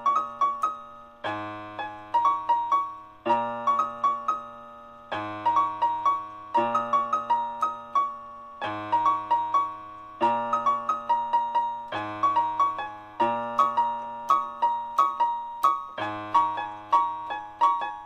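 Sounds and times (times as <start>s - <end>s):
electronic keyboard piano notes: 0.0s - 18.0s.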